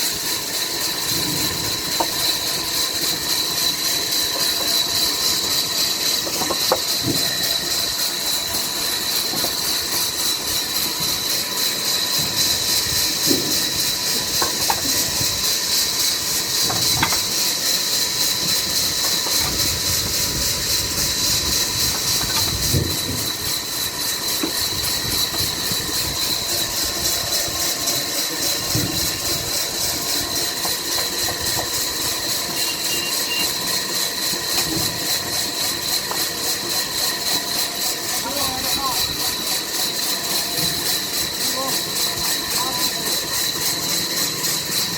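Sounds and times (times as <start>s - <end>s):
sawmill machinery hissing and whining: 0.0s - 44.9s.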